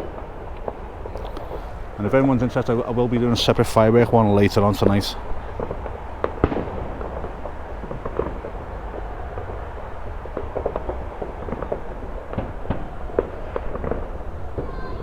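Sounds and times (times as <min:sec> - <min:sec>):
distant fireworks bangs and pops: 0:00.0 - 0:15.0.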